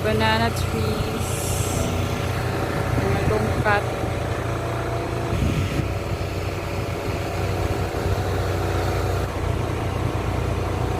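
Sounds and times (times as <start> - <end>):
strong wind buffeting microphone: 0.0 - 10.5.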